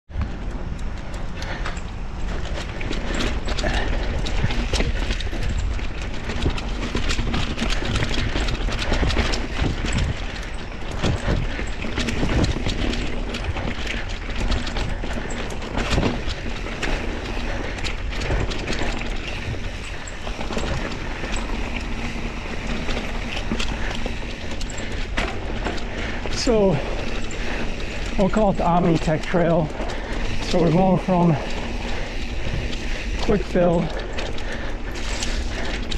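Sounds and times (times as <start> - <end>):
bike rattles and clicks: 0.1 - 35.9
tyres rumbling on dirt: 0.1 - 35.9.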